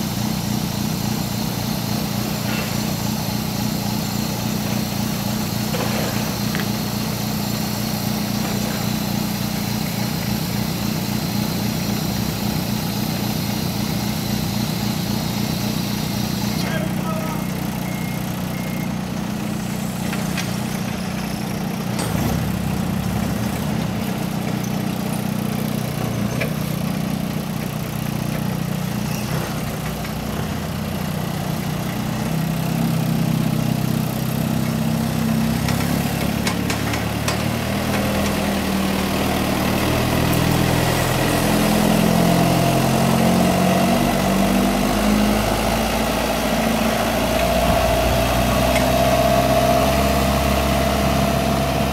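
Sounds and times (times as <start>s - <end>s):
forklift engine running: 0.0s - 51.9s.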